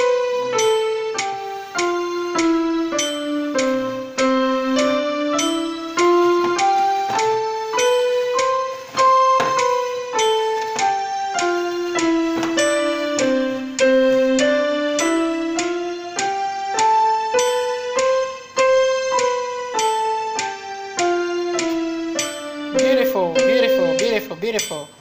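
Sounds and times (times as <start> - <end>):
electronic keyboard piano melody: 0.0 - 25.0.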